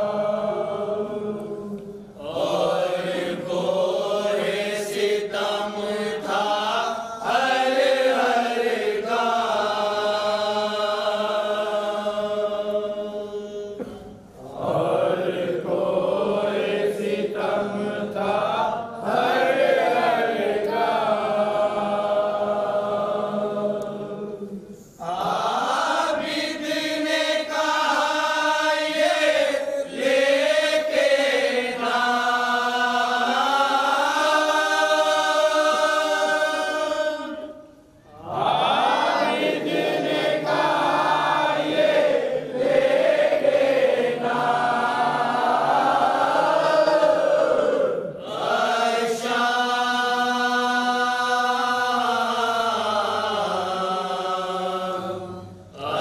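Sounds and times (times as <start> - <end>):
men chanting a lament: 0.0 - 56.0.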